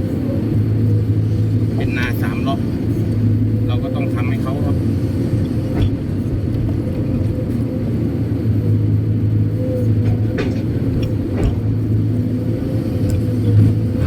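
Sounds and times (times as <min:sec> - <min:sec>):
diesel engine humming: 0:00.0 - 0:14.0
steady whine: 0:00.0 - 0:14.0.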